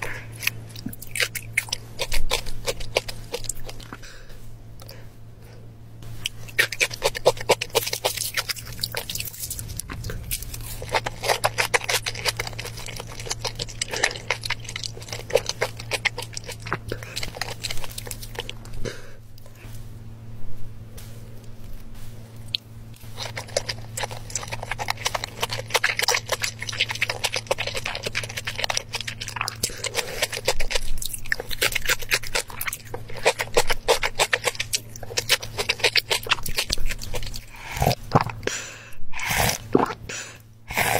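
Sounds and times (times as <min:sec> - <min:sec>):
close chewing and mouth sounds: 0:00.0 - 0:19.9, 0:21.0 - 0:40.9
faint low hum: 0:00.0 - 0:40.9.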